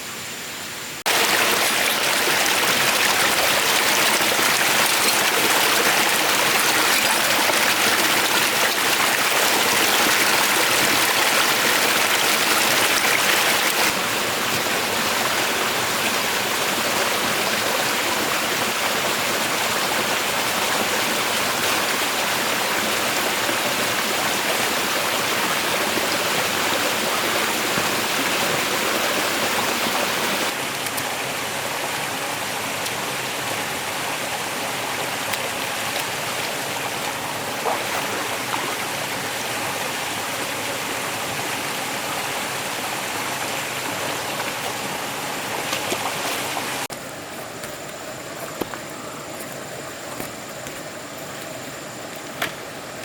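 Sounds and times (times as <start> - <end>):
water rushing: 1.0 - 53.0.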